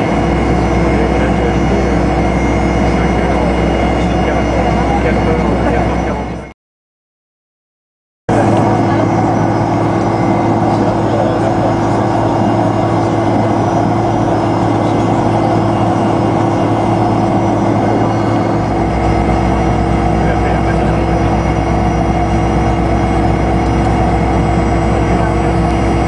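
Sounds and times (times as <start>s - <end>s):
deep rumble: 0.0s - 6.5s, 8.3s - 26.0s
jet engines whining in cabin: 0.0s - 6.6s, 8.3s - 26.0s.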